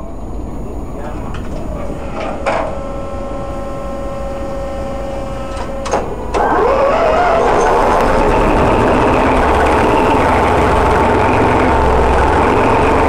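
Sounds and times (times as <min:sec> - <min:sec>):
diesel engine whine: 0:00.0 - 0:13.0.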